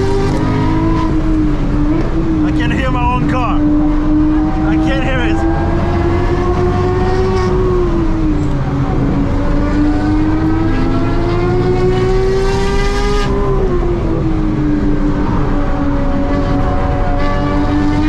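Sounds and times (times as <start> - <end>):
racing engines at high revs: 0.0 - 18.0.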